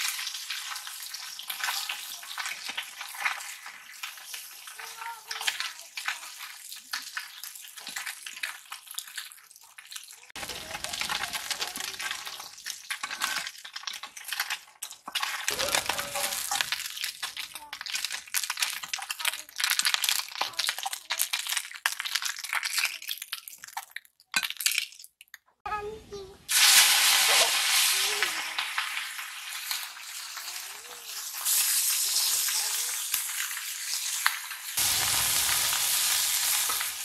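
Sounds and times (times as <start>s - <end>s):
fish sizzling in hot oil: 0.0s - 23.8s, 26.5s - 37.0s.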